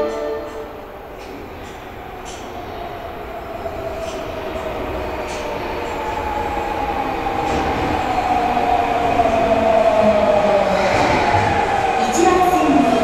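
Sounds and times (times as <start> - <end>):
electric train arriving: 0.0 - 13.0.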